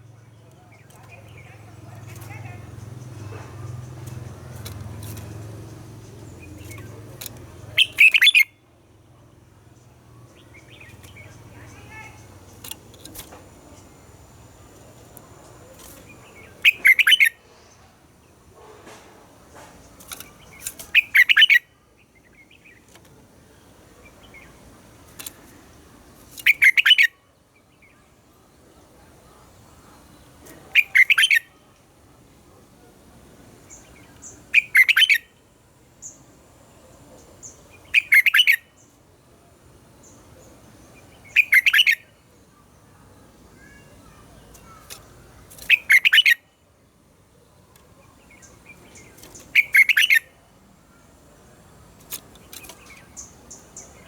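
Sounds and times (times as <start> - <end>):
bird singing song phrases: 0.0 - 18.5, 19.6 - 54.0.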